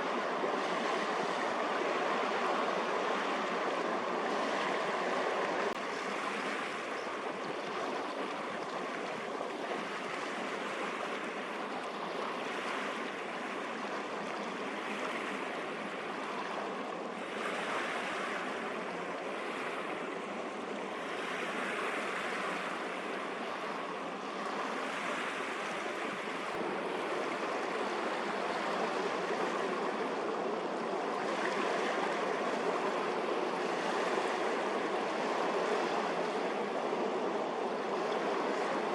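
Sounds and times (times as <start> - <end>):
sea waves rushing: 0.0 - 38.9.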